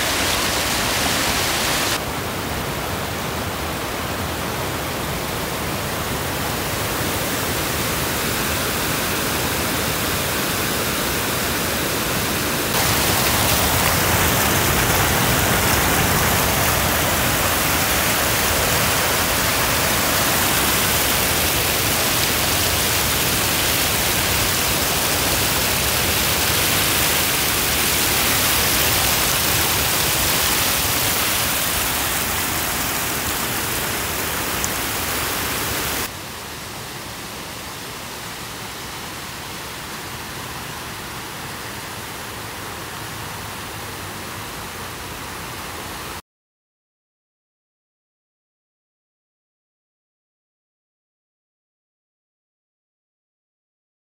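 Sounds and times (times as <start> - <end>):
river water rushing and splashing: 0.0 - 46.2.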